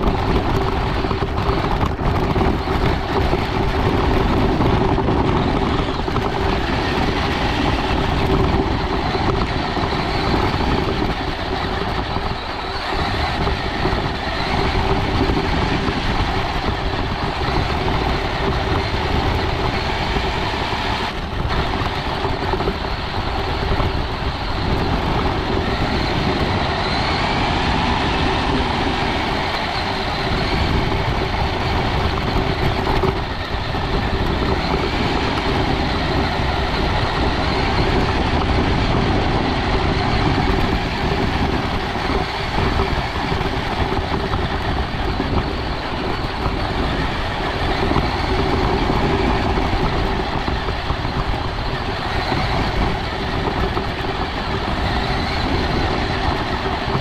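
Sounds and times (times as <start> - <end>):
rc car motor running: 0.0 - 57.0
tyre and chassis noise: 0.0 - 57.0.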